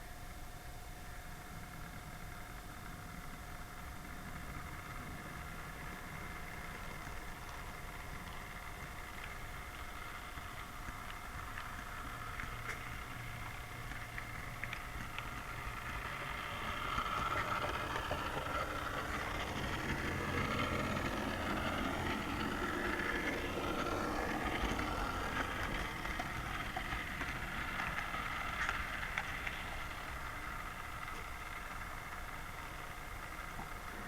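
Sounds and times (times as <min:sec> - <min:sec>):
steady low hum: 0:00.0 - 0:34.0
train wheels clicking on track: 0:00.6 - 0:34.0
small electric motor whining: 0:00.8 - 0:34.0.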